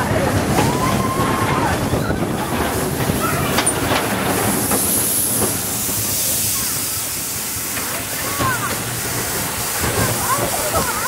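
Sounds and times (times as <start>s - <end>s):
roller coaster cars rumbling on track: 0.0s - 11.0s.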